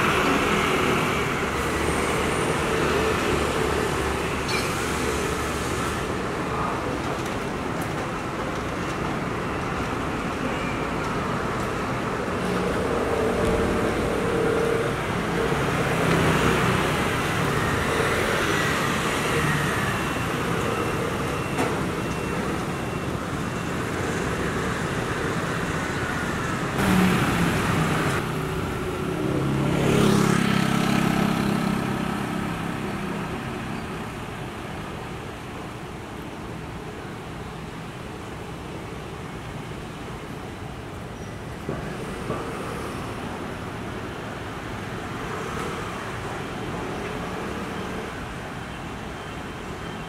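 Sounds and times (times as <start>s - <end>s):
street traffic: 0.0s - 50.0s.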